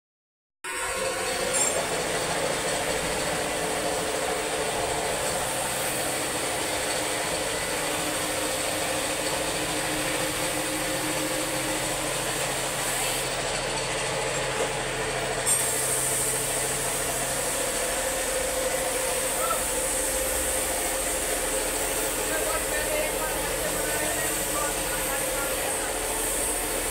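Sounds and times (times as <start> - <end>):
paint spray gun hissing: 2.0 - 13.4, 15.3 - 26.9.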